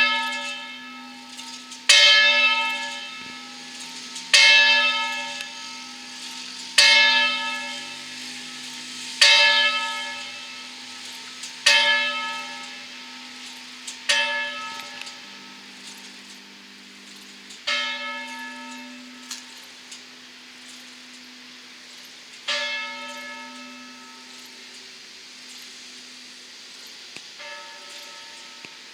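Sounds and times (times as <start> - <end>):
church bells ringing: 0.0 - 25.4, 27.4 - 28.9.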